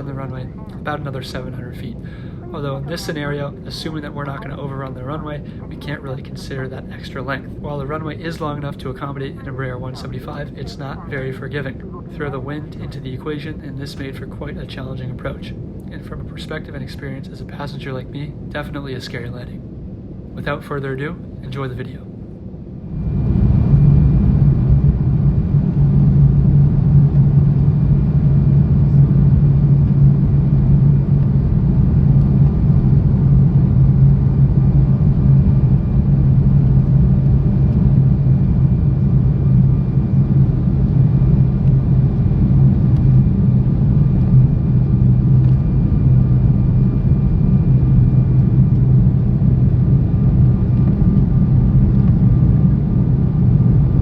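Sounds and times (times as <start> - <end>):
airliner engines droning: 0.0 - 54.0
faint high whine: 0.0 - 54.0.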